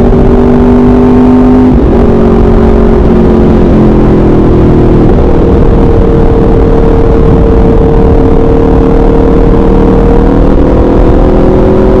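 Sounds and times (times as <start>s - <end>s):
loud motorcycle engine: 0.0s - 12.0s.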